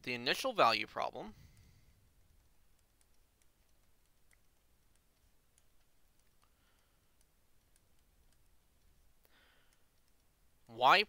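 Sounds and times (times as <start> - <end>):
stylus tapping on tablet: 1.4 - 10.8.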